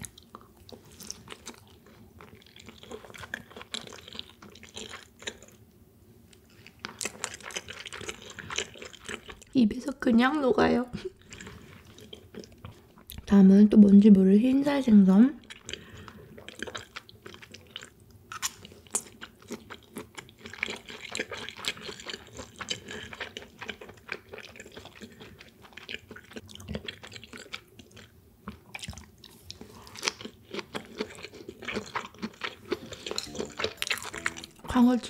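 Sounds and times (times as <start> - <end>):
chewing with mouth clicks: 0.0 - 5.7, 6.3 - 9.5, 11.0 - 13.2, 15.4 - 34.7.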